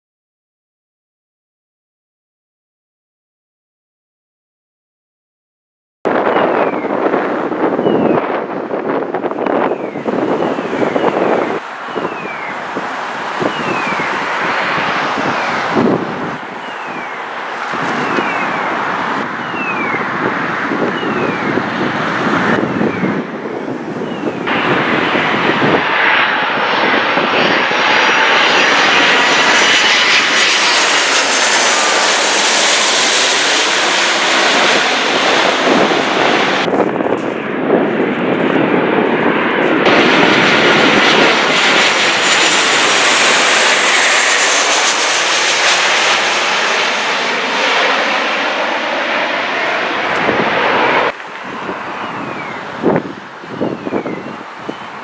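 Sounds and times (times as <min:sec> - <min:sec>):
jet engines rushing and whining: 0:06.1 - 0:55.0.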